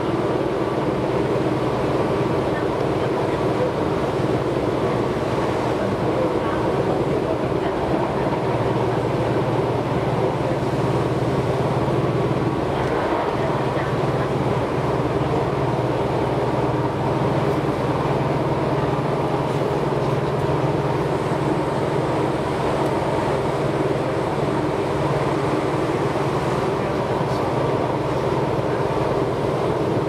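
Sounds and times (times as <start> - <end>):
electric train running rumble: 0.0 - 30.0.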